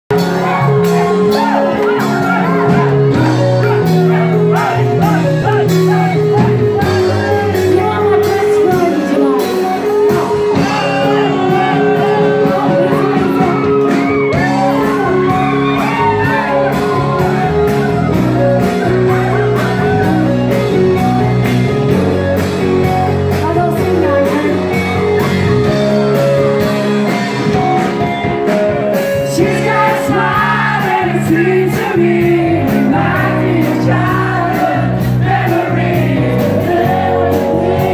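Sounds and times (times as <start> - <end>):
drum beat: 0.1 - 9.0, 9.8 - 37.9
voices singing and shouting: 0.1 - 21.9, 29.3 - 37.9
electric guitar: 0.1 - 37.9.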